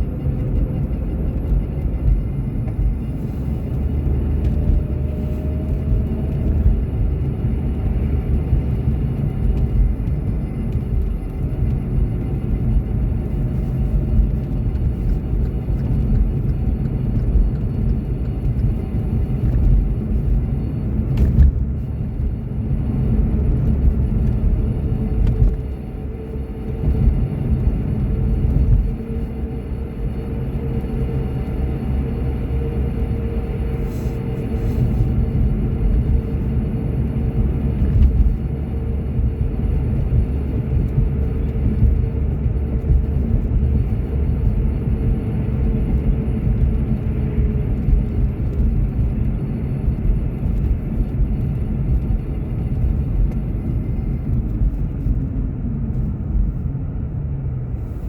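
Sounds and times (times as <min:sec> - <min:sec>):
tyre and engine rumble: 0:00.0 - 0:58.0.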